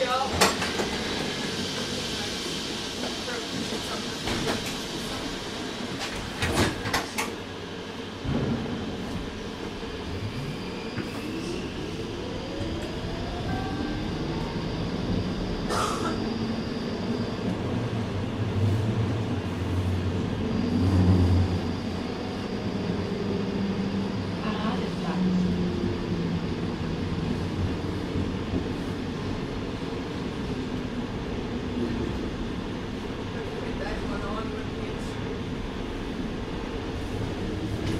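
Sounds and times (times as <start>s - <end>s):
tram clattering: 0.0s - 10.2s, 12.5s - 37.9s
tram electric drive whine: 0.0s - 37.9s.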